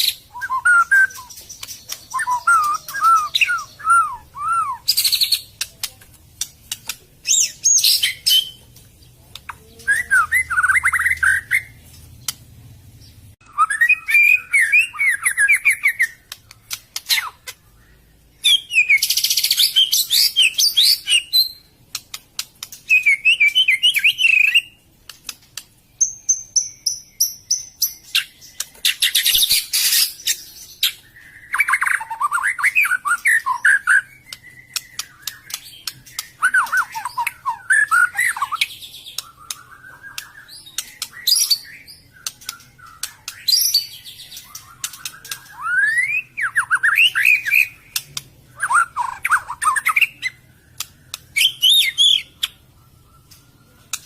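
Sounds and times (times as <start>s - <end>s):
sharp bird clicks: 0.0s - 12.5s, 14.0s - 17.7s, 18.4s - 52.6s, 53.2s - 54.0s
bird singing varied phrases: 0.0s - 54.0s.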